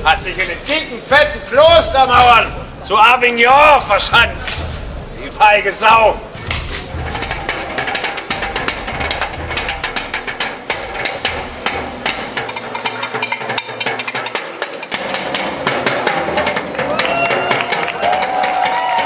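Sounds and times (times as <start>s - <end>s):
deep drum beats: 0.0s - 19.0s
fast percussion rhythm: 0.0s - 19.0s.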